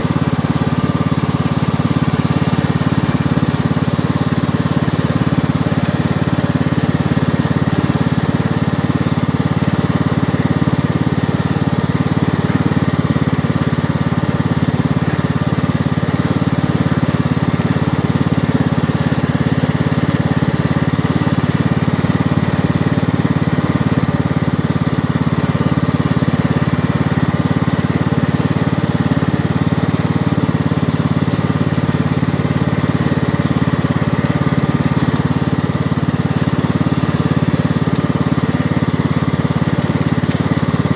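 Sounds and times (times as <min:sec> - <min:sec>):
lawn tractor engine running: 0:00.0 - 0:40.9.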